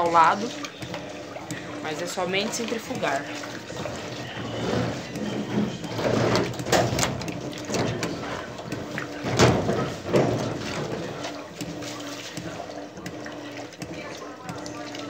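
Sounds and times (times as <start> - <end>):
washing machine water sloshing: 0.0 - 15.0.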